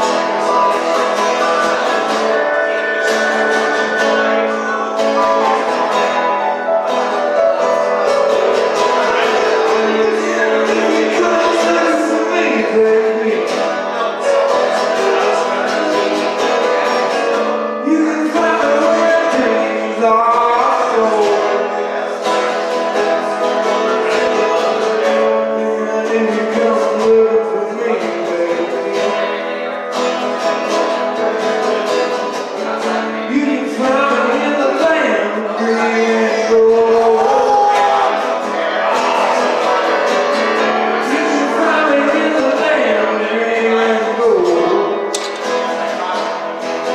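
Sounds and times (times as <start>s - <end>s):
person singing: 0.0s - 46.9s
strummed acoustic guitar: 0.0s - 46.9s.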